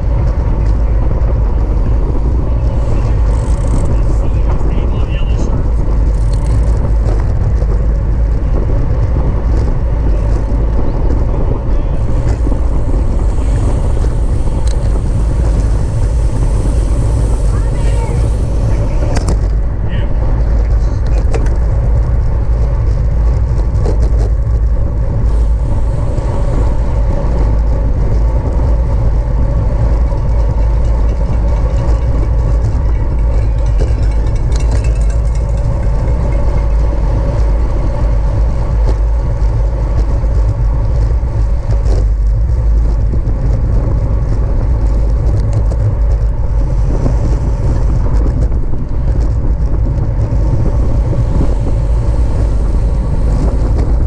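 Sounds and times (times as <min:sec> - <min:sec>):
bicycle tyre and drivetrain hum: 0:00.0 - 0:54.0
wind rushing over microphone: 0:00.0 - 0:54.0.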